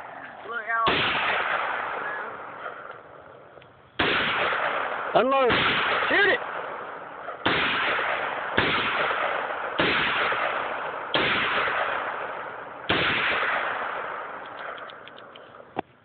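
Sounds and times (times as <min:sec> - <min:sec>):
rifle shots echoing: 0:00.0 - 0:15.8.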